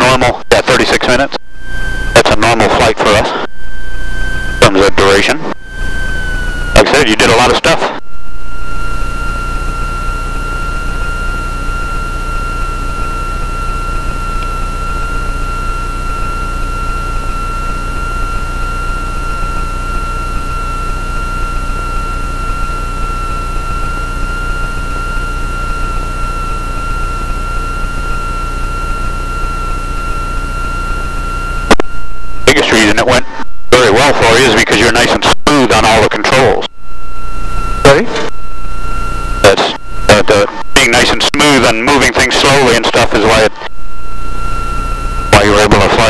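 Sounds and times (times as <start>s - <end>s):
high-pitched whine: 0.0s - 46.0s
propeller plane engine droning: 0.0s - 46.0s.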